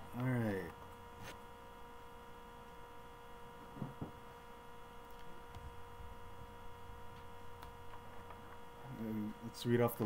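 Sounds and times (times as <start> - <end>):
electrical hum with whine: 0.0 - 10.0.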